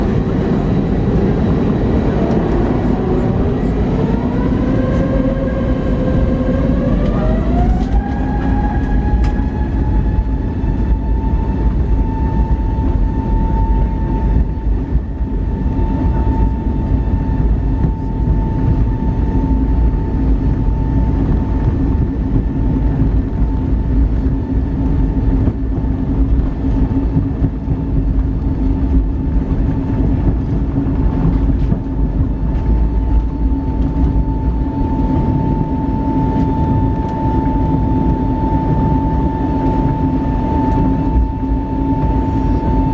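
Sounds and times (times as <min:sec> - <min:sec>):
jet engines spooling up: 0:00.0 - 0:42.9
loud low rumble of takeoff roll: 0:00.0 - 0:42.9.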